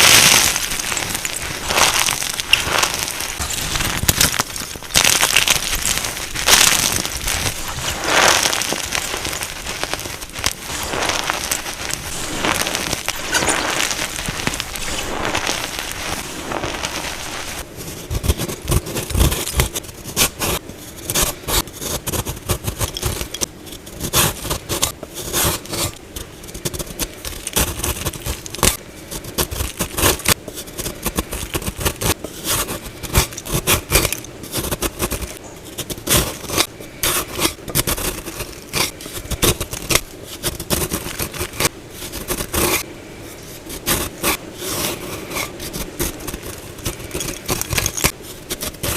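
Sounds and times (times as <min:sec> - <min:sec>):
chalk crumbling hiss: 0:00.0 - 0:48.9
chalk crunching and scraping: 0:00.0 - 0:48.9.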